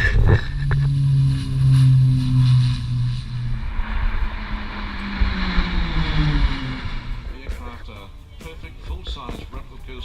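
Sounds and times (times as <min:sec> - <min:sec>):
rushing noise: 0:00.0 - 0:09.1
aircraft engine flying past: 0:00.0 - 0:10.0
low wind rumble: 0:00.0 - 0:10.0.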